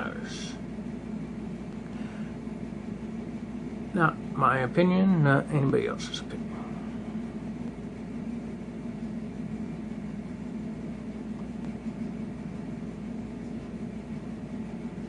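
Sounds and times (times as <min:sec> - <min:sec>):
low mechanical room hum: 0:00.0 - 0:15.0.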